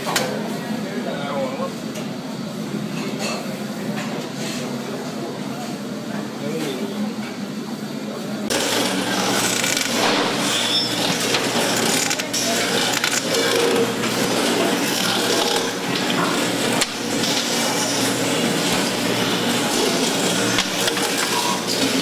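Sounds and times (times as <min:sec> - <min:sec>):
workroom noise: 0:00.0 - 0:22.0.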